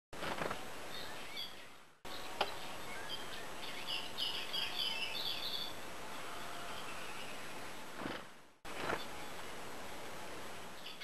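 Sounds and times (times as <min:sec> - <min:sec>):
outdoor hiss: 0:00.2 - 0:11.0
bird chirping: 0:00.5 - 0:07.7, 0:08.7 - 0:10.0, 0:10.7 - 0:11.0.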